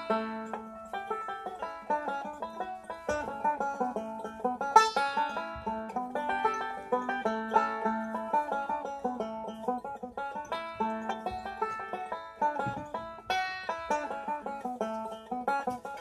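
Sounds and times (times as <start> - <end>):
banjo picking: 0.0 - 16.0.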